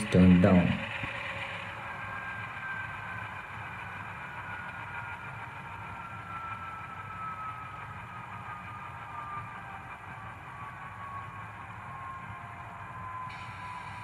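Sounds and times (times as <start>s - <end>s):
faint falling whine: 0.0s - 14.0s
model diesel engine sound: 0.0s - 14.0s.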